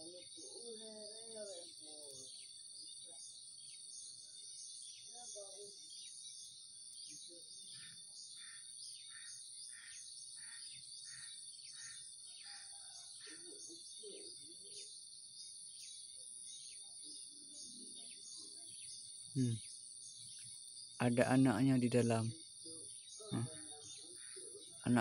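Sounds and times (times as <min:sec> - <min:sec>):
high-pitched insect trill: 0:00.0 - 0:25.0
short insect chirps: 0:00.0 - 0:25.0.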